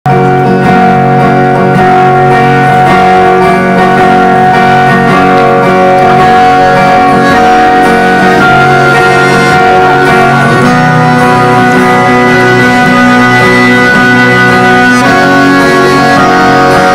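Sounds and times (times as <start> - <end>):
acoustic guitar strumming chords: 0.1 - 16.9.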